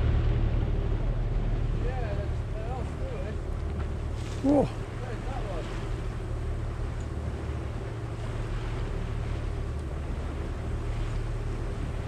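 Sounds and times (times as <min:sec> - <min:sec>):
motor boat engine running: 0:00.0 - 0:12.0
sea noise: 0:00.0 - 0:12.0.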